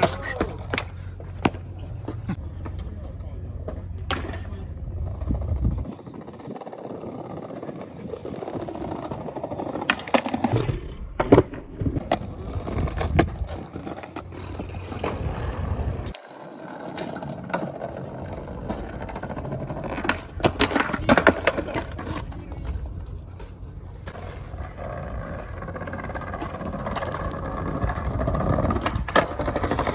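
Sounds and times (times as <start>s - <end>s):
skateboard wheels rolling on pavement: 0.0s - 29.9s
skateboard wooden clacks: 0.0s - 29.9s.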